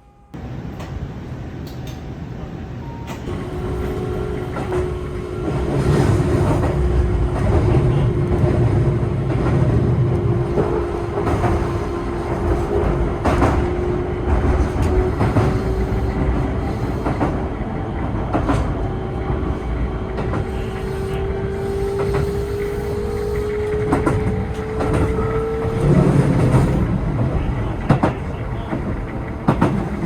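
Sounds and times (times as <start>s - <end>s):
train rolling rumble: 0.0s - 30.0s
train traction motor whine: 2.8s - 30.0s.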